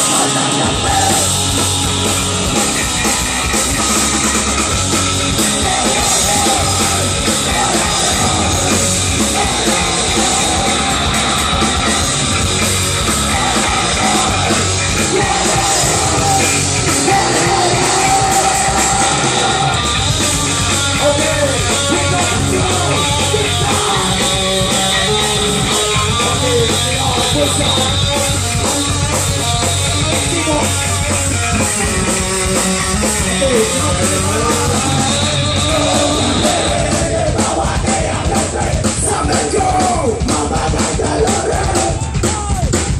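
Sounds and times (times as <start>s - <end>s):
shouted vocals: 0.0s - 3.3s, 5.2s - 28.0s, 33.3s - 42.9s
punk rock band playing: 0.0s - 42.9s.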